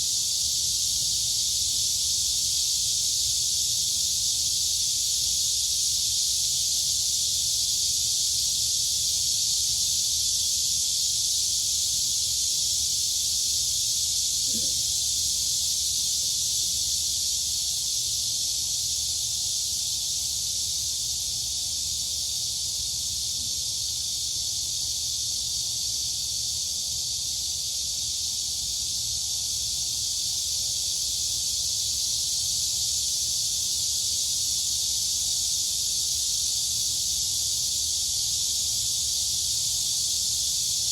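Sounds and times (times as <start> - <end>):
crickets and cicadas buzzing: 0.0 - 40.9.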